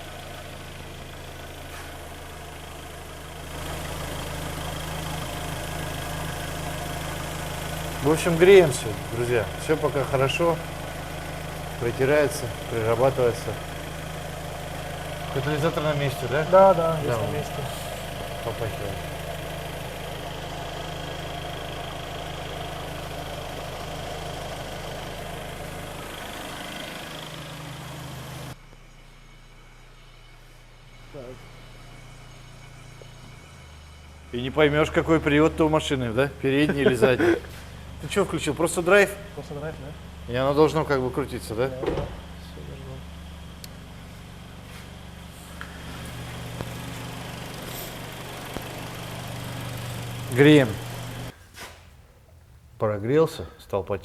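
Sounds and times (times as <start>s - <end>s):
car engine idling: 0.0s - 54.0s
drivetrain hum: 7.0s - 53.5s.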